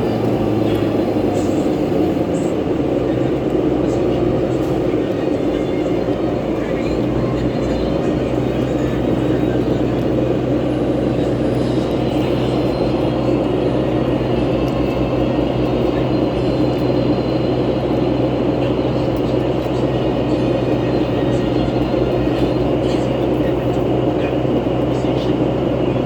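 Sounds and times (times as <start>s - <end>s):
bus engine drone: 0.0s - 26.0s.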